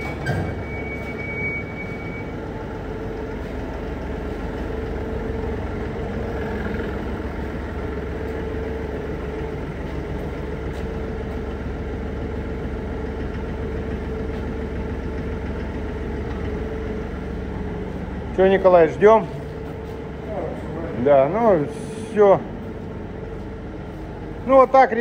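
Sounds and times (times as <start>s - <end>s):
forklift engine idling: 0.0s - 25.0s.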